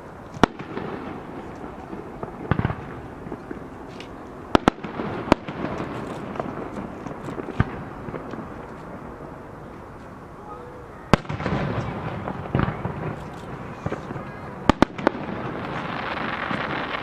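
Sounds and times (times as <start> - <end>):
background noise: 0.0 - 17.0
fireworks bangs: 0.0 - 17.0.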